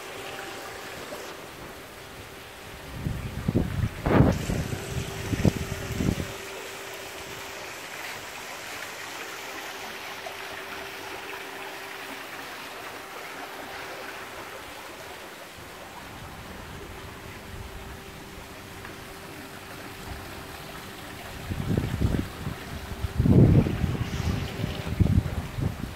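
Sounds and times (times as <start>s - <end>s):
faint steady hum: 0.0s - 25.9s
running water from water feature: 0.0s - 25.9s.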